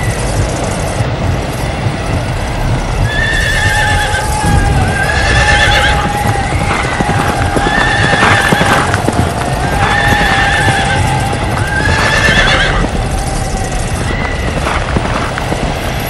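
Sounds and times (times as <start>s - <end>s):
galloping hooves rumbling: 0.0s - 16.0s
horses neighing: 2.0s - 16.0s.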